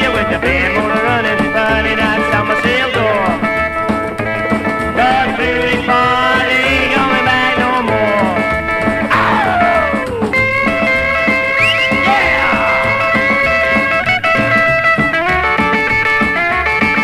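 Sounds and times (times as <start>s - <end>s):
bass and drum beat: 0.0s - 17.0s
electric guitar lead: 0.0s - 17.0s.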